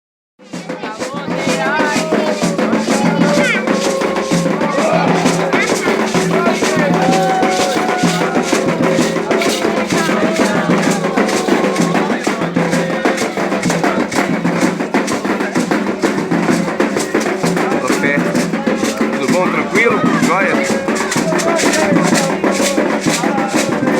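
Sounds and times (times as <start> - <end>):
hand drums: 0.4 - 23.9
voices singing: 0.5 - 23.9.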